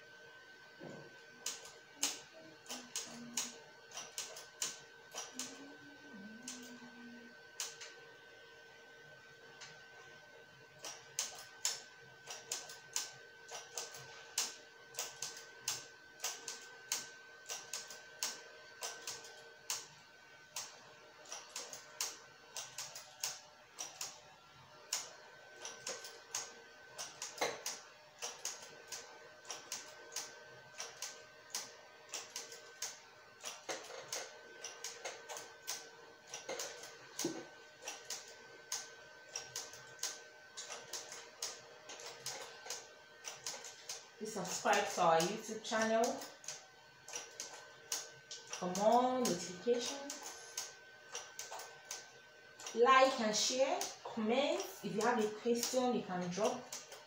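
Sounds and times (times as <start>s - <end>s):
faint steady whine: 0.0s - 57.0s
knitting machine needles clicking: 1.4s - 5.6s, 10.8s - 19.9s, 20.6s - 24.2s, 24.9s - 52.0s, 52.6s - 57.0s.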